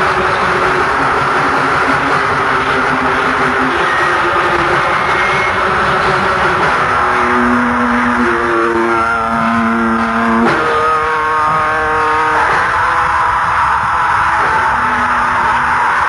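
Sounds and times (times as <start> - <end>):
distorted guitar riff: 0.0 - 16.0.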